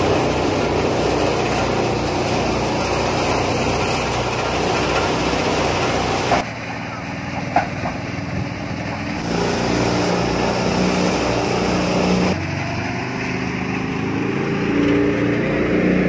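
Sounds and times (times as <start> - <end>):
thresher engine running: 0.0 - 15.8.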